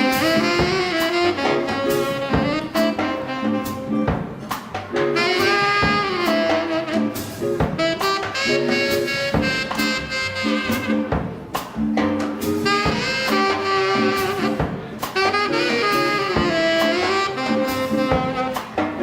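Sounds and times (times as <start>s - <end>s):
drum kit keeping time: 0.0s - 19.0s
saxophone and brass horns: 0.0s - 19.0s.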